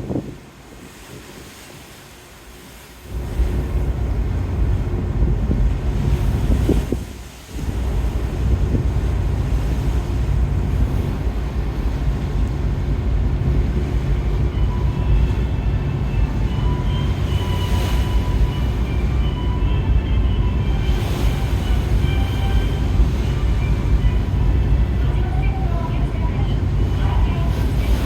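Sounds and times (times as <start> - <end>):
strong wind buffeting microphone: 0.0 - 1.4, 3.1 - 28.0.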